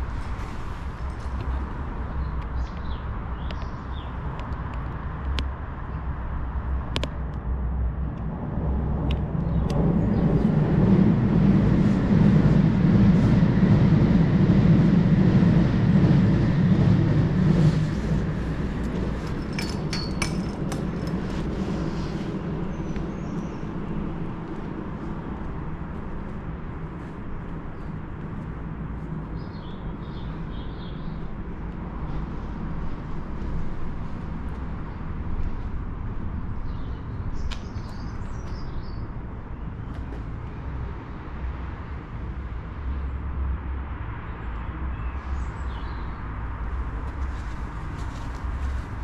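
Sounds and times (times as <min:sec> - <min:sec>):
underground train rumble: 0:00.0 - 0:49.0.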